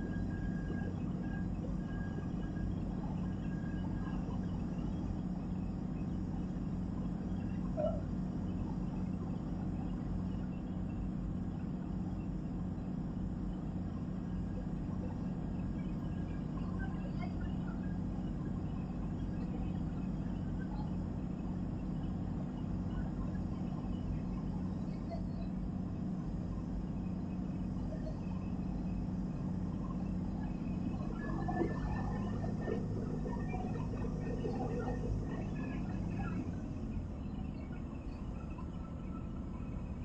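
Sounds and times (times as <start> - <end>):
boat engine droning: 0.0 - 40.0
wind: 0.0 - 40.0.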